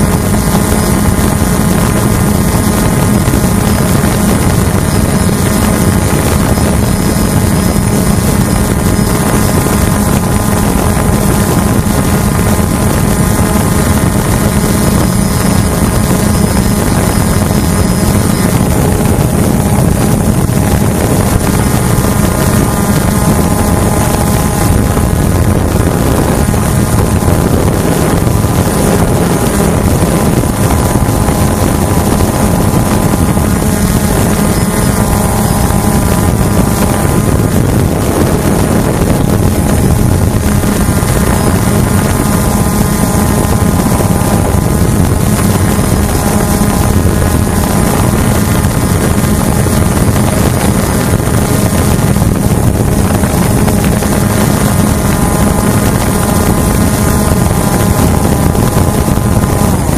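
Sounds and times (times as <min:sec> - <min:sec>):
drone propellers droning: 0:00.0 - 0:59.9
wind noise on microphone: 0:00.0 - 0:59.9.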